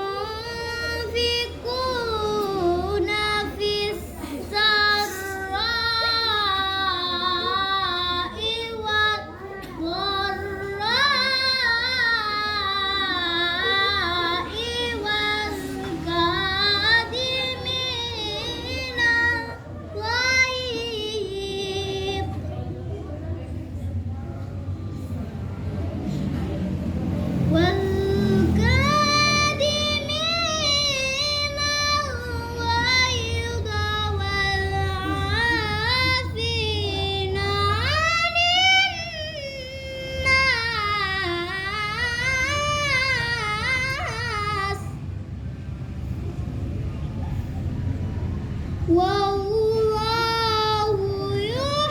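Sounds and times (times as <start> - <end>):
girl chanting recitation: 0.0 - 23.4, 27.2 - 45.3, 48.8 - 51.9.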